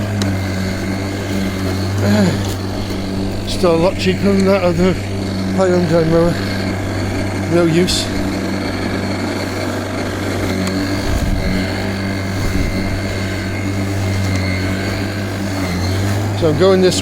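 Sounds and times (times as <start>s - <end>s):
electric lawnmower hum: 0.0s - 17.0s
faint high whine: 0.0s - 17.0s.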